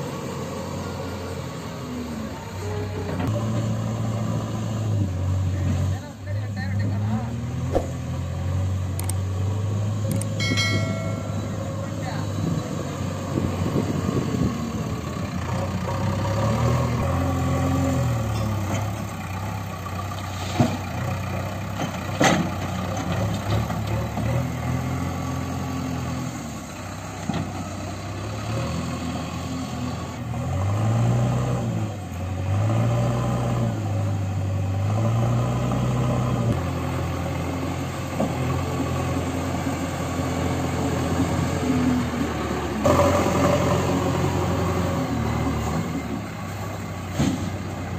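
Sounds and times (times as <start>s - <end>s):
diesel engine revving: 0.0s - 47.9s.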